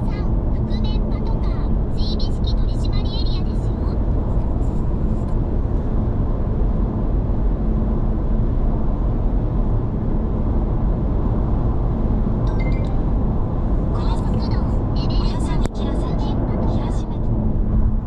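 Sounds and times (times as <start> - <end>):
car engine hum: 0.0 - 18.0
road and tyre rumble: 0.0 - 18.0.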